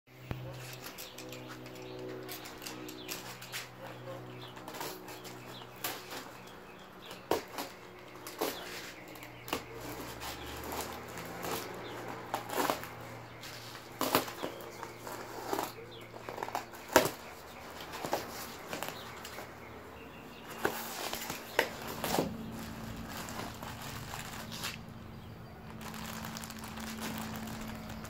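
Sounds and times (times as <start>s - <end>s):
tape crackling and scraping: 0.2s - 28.0s.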